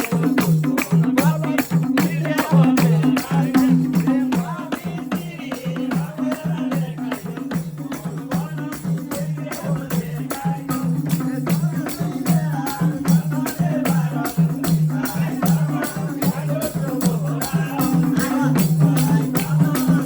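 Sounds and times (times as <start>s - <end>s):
rattling percussion beat: 0.0s - 20.0s.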